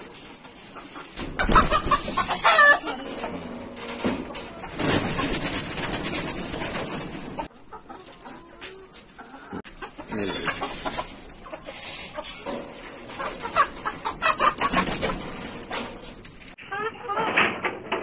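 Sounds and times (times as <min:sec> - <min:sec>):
rustling noise: 0:00.0 - 0:16.6
chickens clucking: 0:00.0 - 0:18.0.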